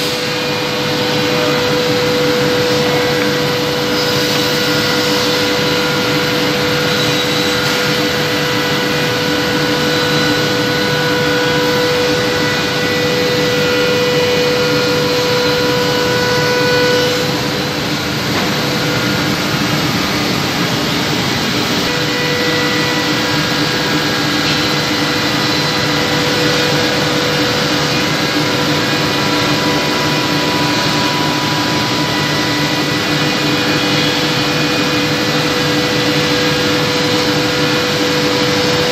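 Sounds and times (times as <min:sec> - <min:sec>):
sanding machine whirring hum: 0:00.0 - 0:38.9.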